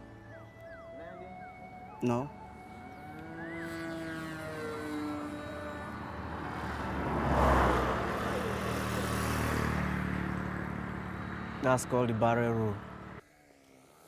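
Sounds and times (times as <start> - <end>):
model airplane engine: 0.0 - 14.0.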